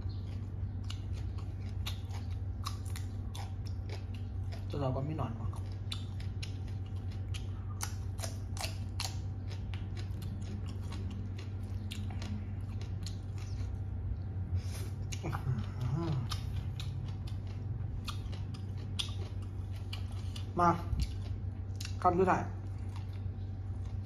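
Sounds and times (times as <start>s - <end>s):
chewing and crunching: 0.0s - 24.0s
steady low hum: 0.0s - 24.0s.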